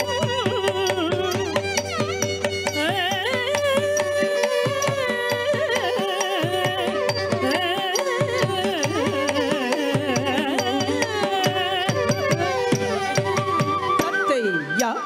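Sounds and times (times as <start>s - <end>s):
ornamented melody: 0.0s - 15.0s.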